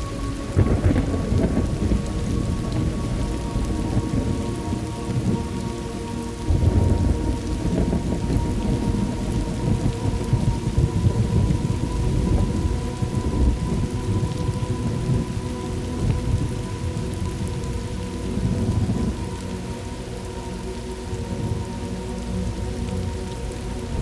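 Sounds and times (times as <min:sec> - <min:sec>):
low rolling thunder: 0:00.0 - 0:19.8
steady rain: 0:00.0 - 0:24.0.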